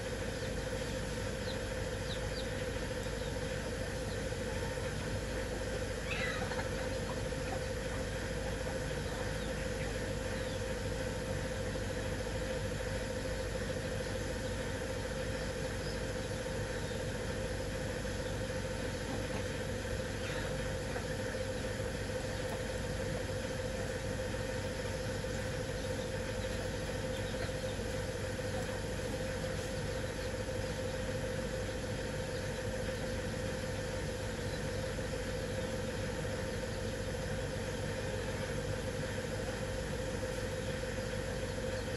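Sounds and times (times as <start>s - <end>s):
motor humming: 0.0s - 41.9s.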